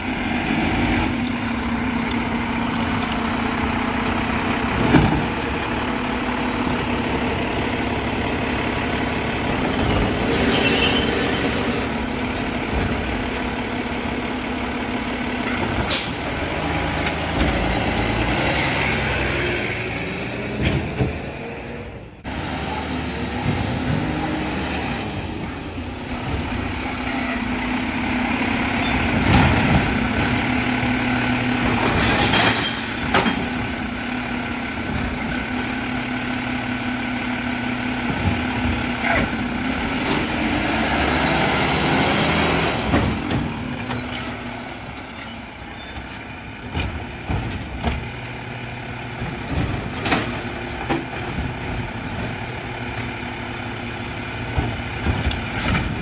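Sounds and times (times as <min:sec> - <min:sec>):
hydraulic and engine whine: 0:00.0 - 0:56.0.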